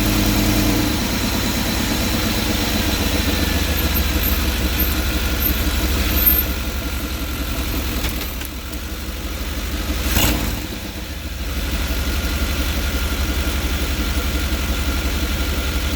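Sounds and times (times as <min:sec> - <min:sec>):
engine idling: 0:00.0 - 0:15.9.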